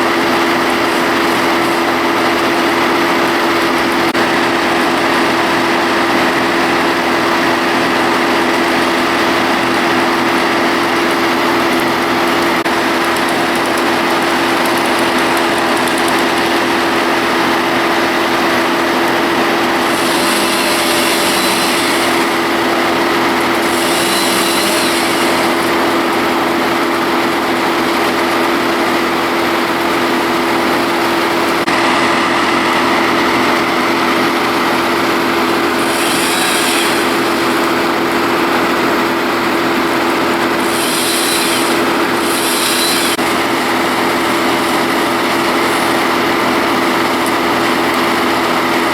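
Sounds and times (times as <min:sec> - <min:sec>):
small petrol engine running: 0:00.0 - 0:48.9.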